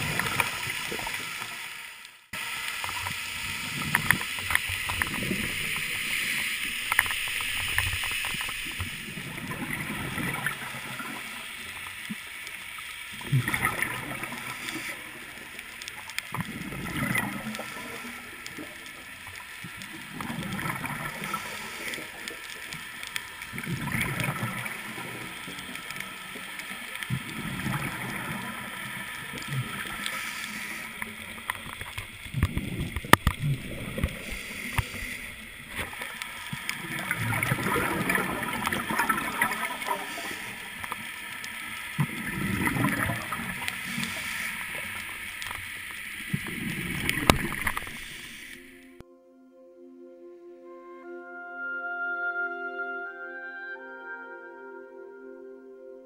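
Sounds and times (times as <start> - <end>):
scuba exhaled bubbles gurgling: 0.0 - 1.8, 2.4 - 49.0
steady underwater hiss: 0.0 - 49.0.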